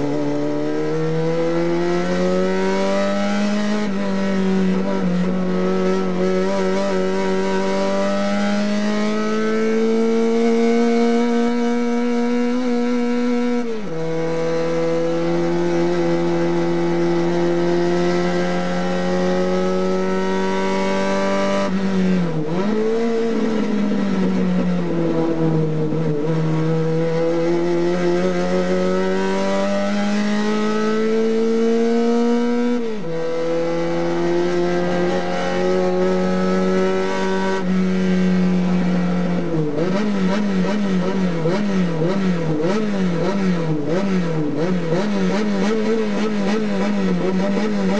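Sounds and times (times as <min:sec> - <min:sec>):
race car engine accelerating: 0:00.0 - 0:47.9.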